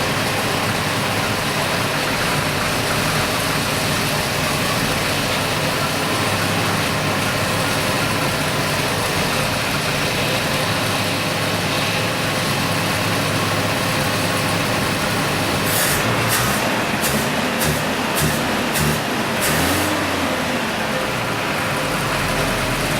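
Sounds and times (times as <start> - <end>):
car engine running steadily: 0.0 - 22.9.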